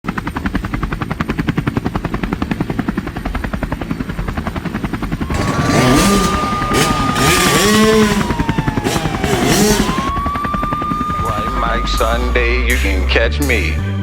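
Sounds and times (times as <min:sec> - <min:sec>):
helicopter rotor chopping: 0:00.1 - 0:12.1.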